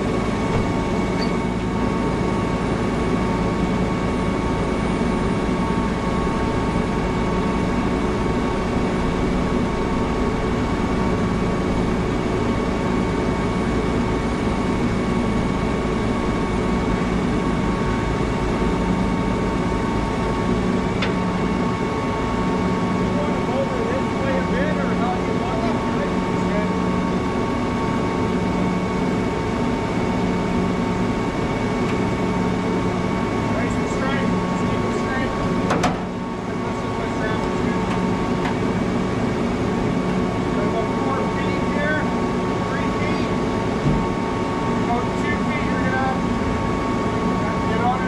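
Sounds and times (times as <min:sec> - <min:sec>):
truck engines idling: 0:00.0 - 0:48.0.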